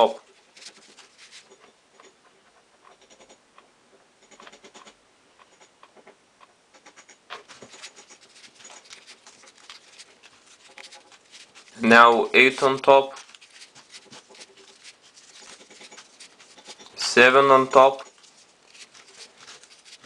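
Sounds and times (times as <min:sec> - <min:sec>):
paper modules rustling and clicking: 0:00.0 - 0:03.4, 0:06.8 - 0:20.0.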